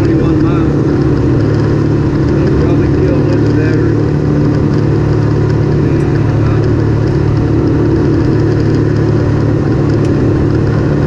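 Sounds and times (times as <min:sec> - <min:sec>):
vehicle engine running steadily: 0:00.0 - 0:11.0.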